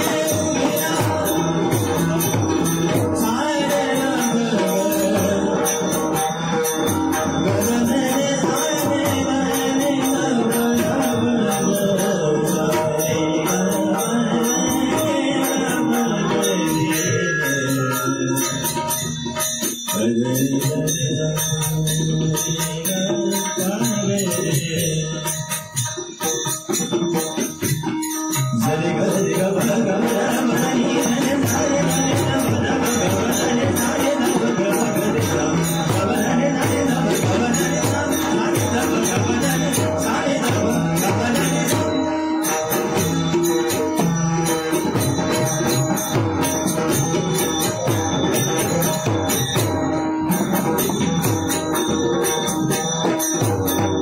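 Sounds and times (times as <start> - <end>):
person singing devotional song: 0.0 - 25.9, 28.4 - 54.0
driving beat: 0.0 - 54.0
jingling metal percussion: 0.0 - 54.0.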